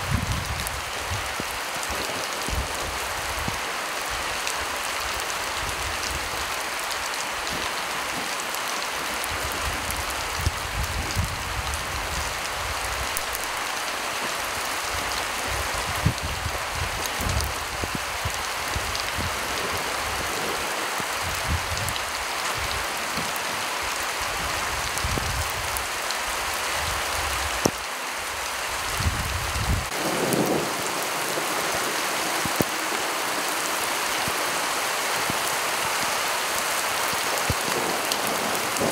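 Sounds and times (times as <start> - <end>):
heavy rain falling: 0.0 - 38.9
raindrops tapping close by: 0.1 - 28.0, 28.9 - 38.9.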